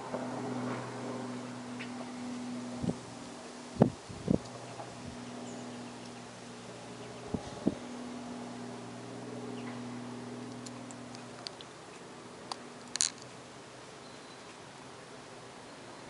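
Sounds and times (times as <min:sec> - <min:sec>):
distant helicopter hum: 0:00.0 - 0:16.0.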